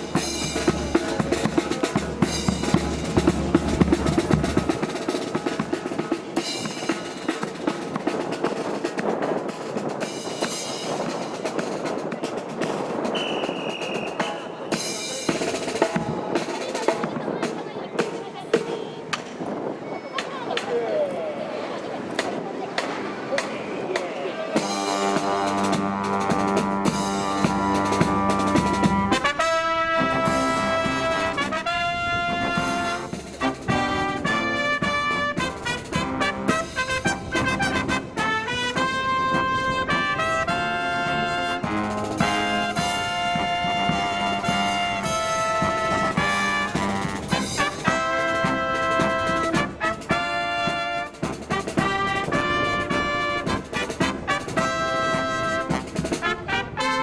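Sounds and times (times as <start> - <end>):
marching brass band playing: 0.0 - 18.7, 24.5 - 57.0.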